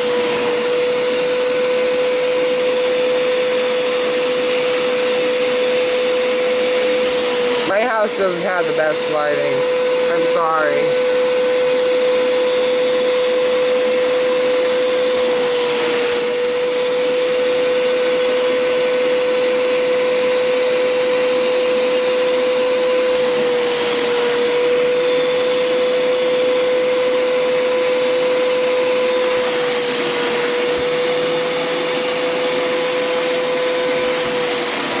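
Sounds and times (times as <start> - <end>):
carpet cleaner motor whine: 0.0 - 35.0.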